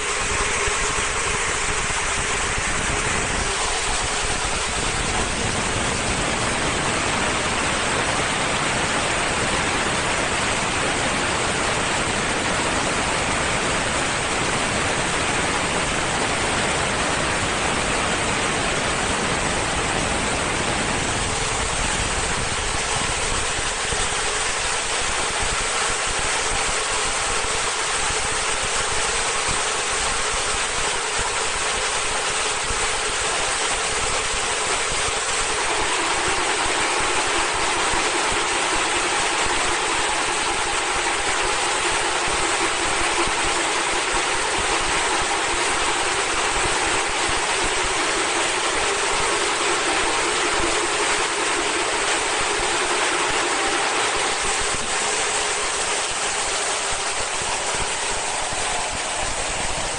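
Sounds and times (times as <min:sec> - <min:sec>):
film rewinding machine whirring: 0:00.0 - 0:59.9.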